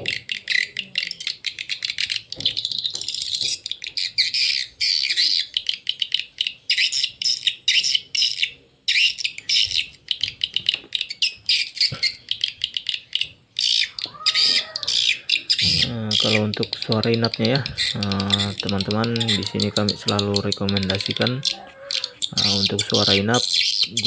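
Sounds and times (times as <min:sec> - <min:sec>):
recorded bird twittering chirps: 0:00.0 - 0:24.0.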